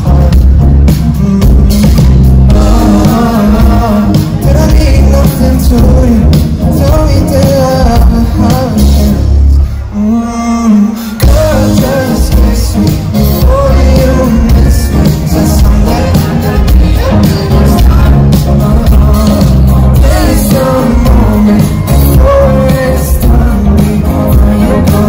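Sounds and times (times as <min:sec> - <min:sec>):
band with heavy bass: 0:00.0 - 0:25.0
man singing amplified: 0:00.0 - 0:25.0.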